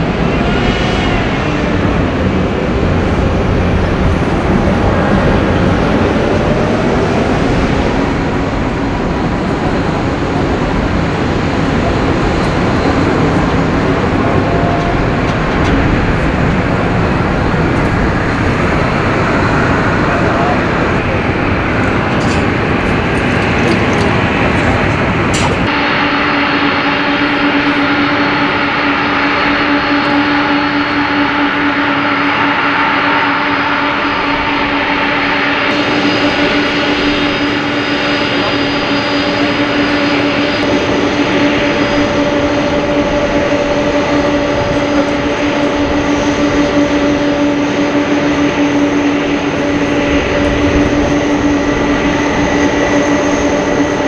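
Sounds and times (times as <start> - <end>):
jet engines humming at taxi power: 0.0 - 54.0
jet engines roaring on climb: 0.0 - 54.0.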